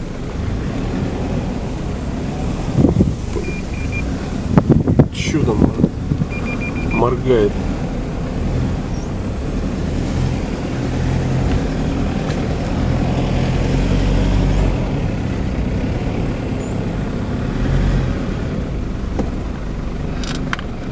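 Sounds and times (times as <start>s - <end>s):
vehicle engine and road noise: 0.0s - 20.9s.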